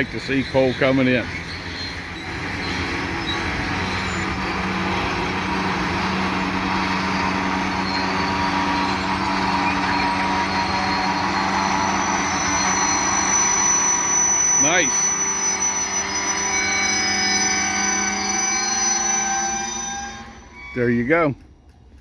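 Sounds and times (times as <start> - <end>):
diesel locomotive engines humming: 0.0 - 22.0
train rolling: 0.0 - 22.0.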